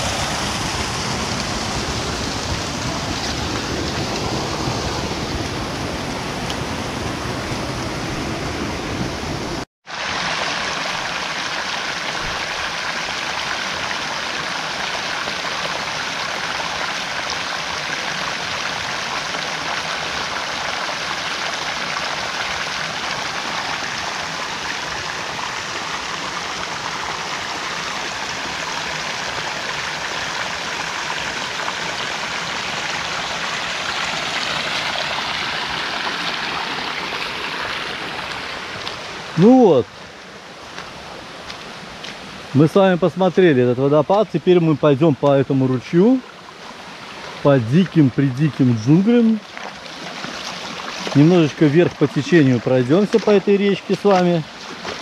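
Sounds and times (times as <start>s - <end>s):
stream and waterfall rushing: 0.0s - 55.0s.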